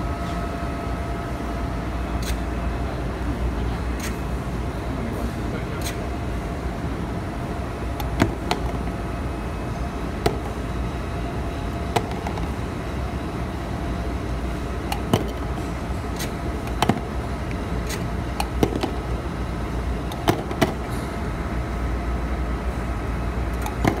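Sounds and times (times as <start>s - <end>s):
labeling machine humming: 0.0s - 24.0s.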